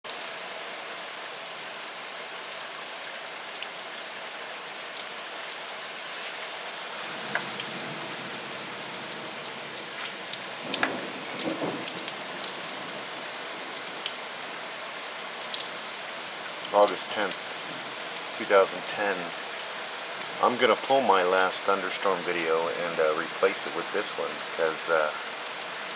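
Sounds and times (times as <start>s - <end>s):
heavy rain pouring: 0.1s - 25.9s
raindrops ticking on hard surfaces: 0.1s - 25.9s.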